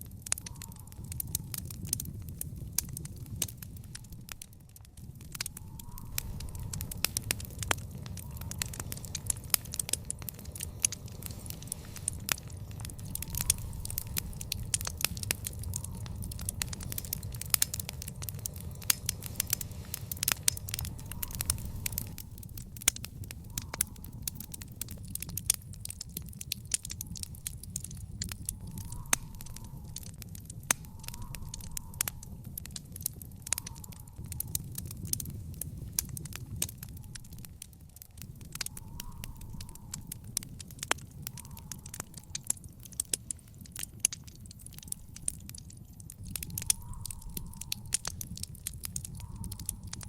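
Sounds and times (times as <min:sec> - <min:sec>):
fire crackling and popping: 0:00.0 - 0:50.0
low fire rumble: 0:00.0 - 0:50.0.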